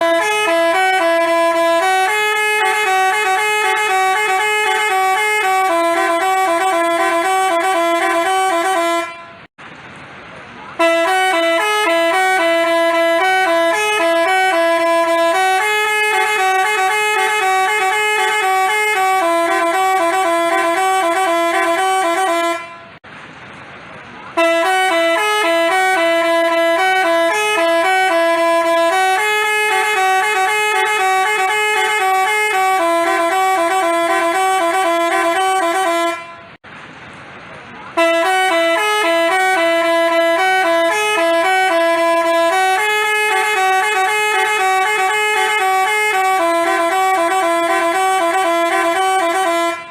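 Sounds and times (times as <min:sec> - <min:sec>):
musical bus horn melody: 0:00.0 - 0:09.5, 0:10.7 - 0:23.0, 0:24.3 - 0:36.6, 0:37.9 - 0:49.9.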